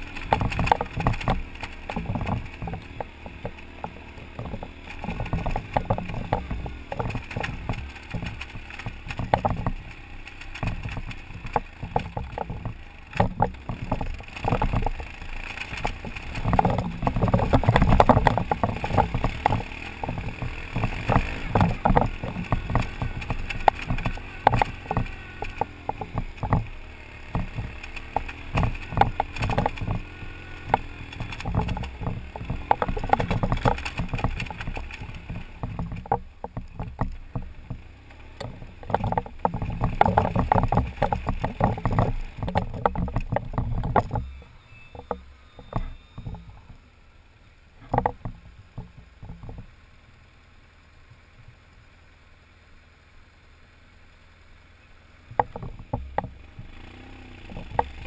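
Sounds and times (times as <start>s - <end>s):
rattles and knocks over stones: 0.0s - 47.0s, 47.7s - 49.8s, 55.2s - 58.0s
motorcycle engine running: 0.0s - 58.0s.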